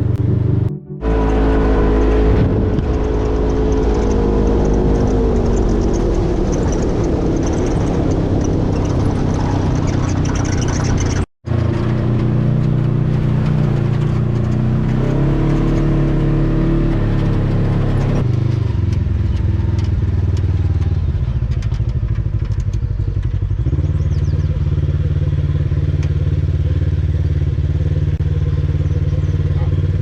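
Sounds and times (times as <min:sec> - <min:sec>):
engine revving: 0:00.0 - 0:21.4, 0:23.6 - 0:30.0.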